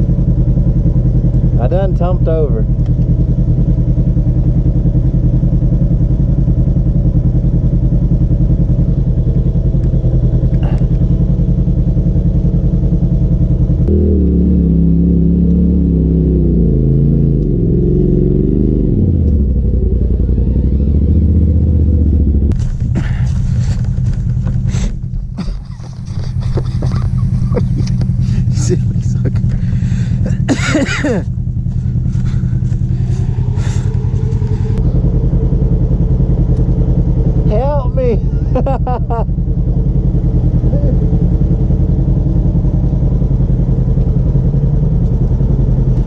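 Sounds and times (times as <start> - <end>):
utility vehicle engine running: 0.0 - 46.0.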